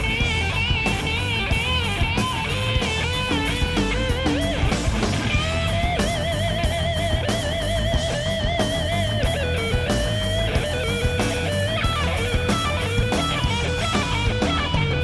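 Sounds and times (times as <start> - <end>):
bass and drums: 0.0 - 15.0
lead electric guitar: 0.0 - 15.0.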